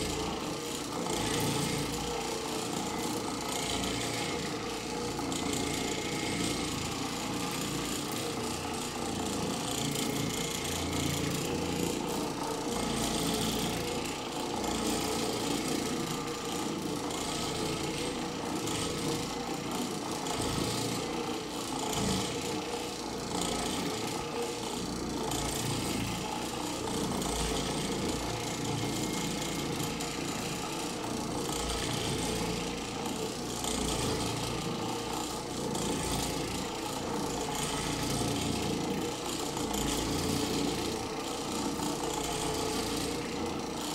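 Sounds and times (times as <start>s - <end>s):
floor machine motor running: 0.0s - 43.9s.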